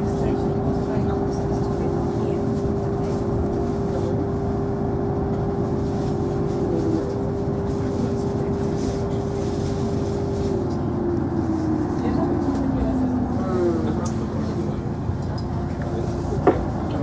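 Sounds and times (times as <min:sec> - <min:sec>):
train interior rumble and whine: 0:00.0 - 0:17.0.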